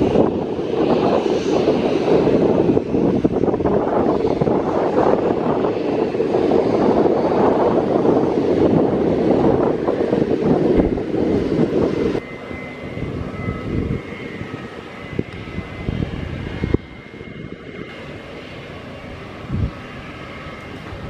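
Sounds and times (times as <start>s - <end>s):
jet engines idling: 0.0s - 21.0s
wind buffeting microphone: 0.0s - 21.0s.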